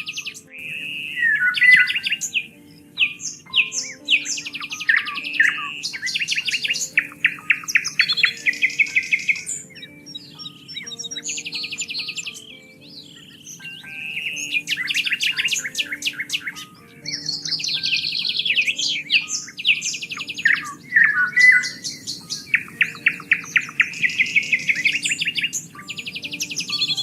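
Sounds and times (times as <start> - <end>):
soft background music: 0.0 - 27.0
songbirds singing: 0.0 - 27.0.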